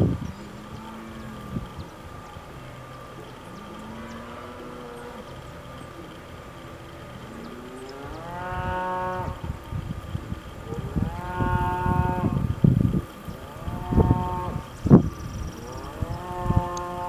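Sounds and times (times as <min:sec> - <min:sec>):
cattle mooing: 0:00.0 - 0:17.0
low rumbling thumps: 0:00.0 - 0:17.0.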